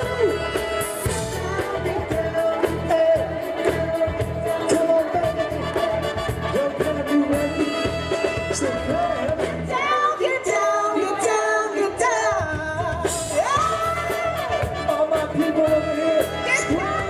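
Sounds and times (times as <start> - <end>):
steady drum beats: 0.0 - 11.3, 12.0 - 17.0
lead singer singing: 0.0 - 17.0
live band playing disco: 0.0 - 17.0.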